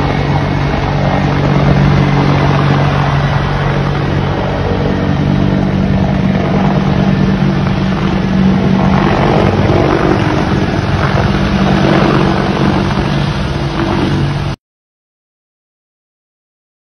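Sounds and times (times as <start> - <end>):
engine droning with rushing roar: 0.0 - 14.6.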